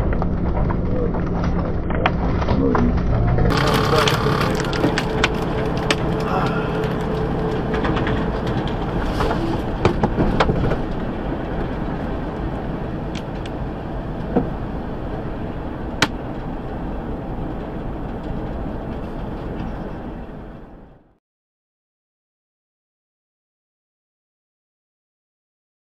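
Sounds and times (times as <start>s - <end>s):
truck road and engine noise: 0.0s - 21.2s.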